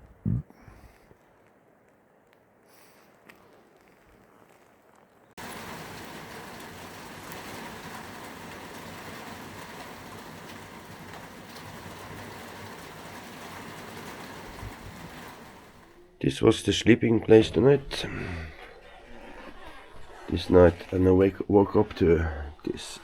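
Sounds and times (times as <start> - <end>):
steady rain falling: 0.6 - 23.0.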